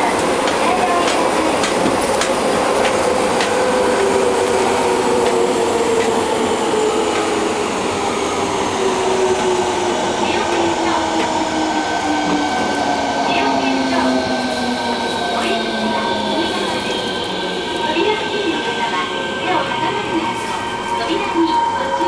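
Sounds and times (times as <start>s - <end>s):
train car rumble: 0.0s - 22.0s.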